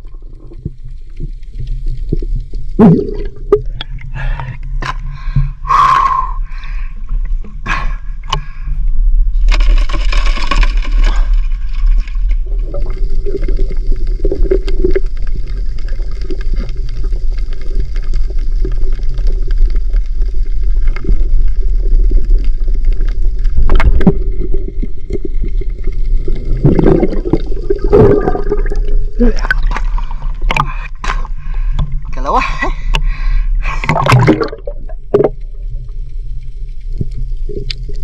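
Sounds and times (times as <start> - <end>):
low rumble: 0.0 - 38.0.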